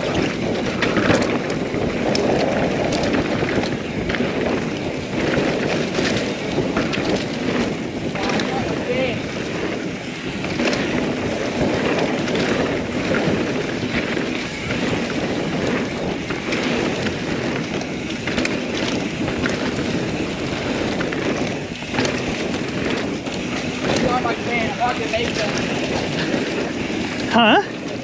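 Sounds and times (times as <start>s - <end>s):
bike clicks and rattles: 0.0s - 28.0s
tyres rolling on dirt: 0.0s - 28.0s
wind over microphone: 0.0s - 28.0s.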